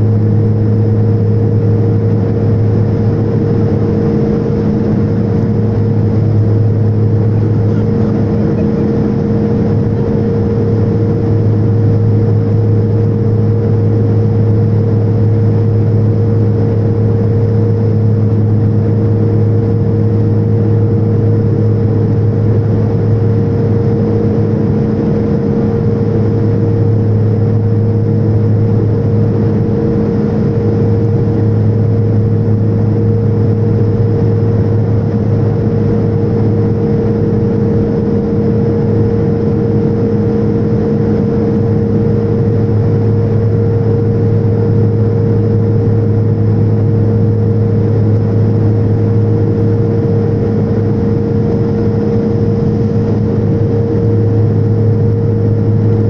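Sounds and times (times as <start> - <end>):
airliner engines droning in cabin: 0.0 - 56.0.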